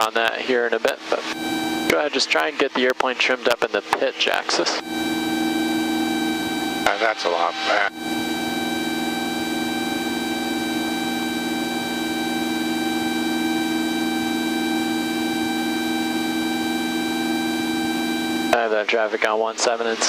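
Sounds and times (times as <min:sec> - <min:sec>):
small plane cabin drone: 0:00.3 - 0:19.3.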